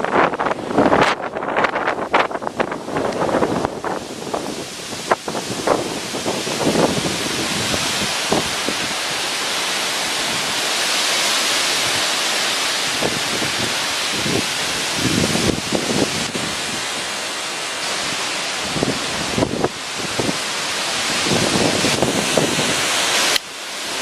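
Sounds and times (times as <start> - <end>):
wind buffeting microphone: 0.0 - 10.8, 12.8 - 17.2, 17.8 - 23.4
strong wind rushing: 0.0 - 23.4.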